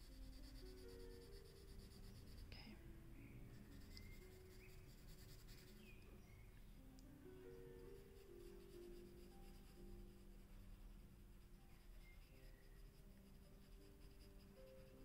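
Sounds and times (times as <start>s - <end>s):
pencil scratching on paper: 0.0s - 2.7s, 3.6s - 6.0s, 7.8s - 15.0s.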